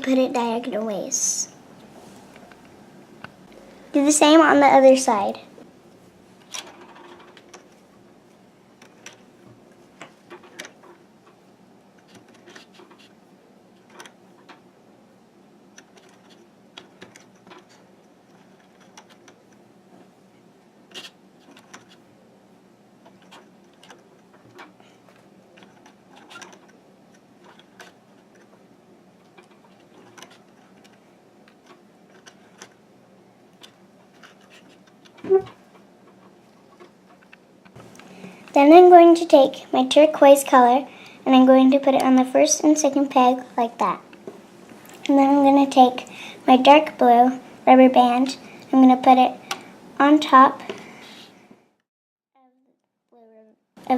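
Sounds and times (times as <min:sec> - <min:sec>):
steady low hum: 0:00.0 - 0:51.8.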